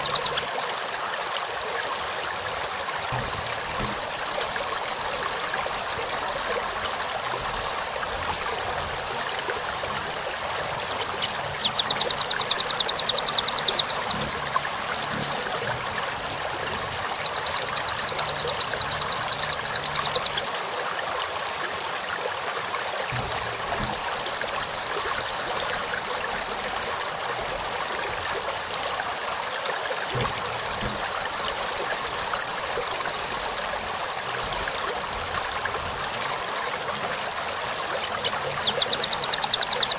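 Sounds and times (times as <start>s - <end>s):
bird singing rapid high trills: 0.0s - 0.5s, 3.1s - 20.5s, 23.1s - 39.9s.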